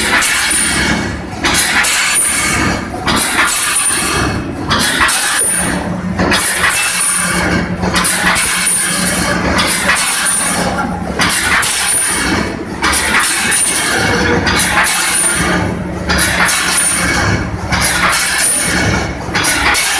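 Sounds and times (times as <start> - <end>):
steady low machine hum: 0.0 - 19.9
welding machine clatter and hiss: 0.0 - 19.9.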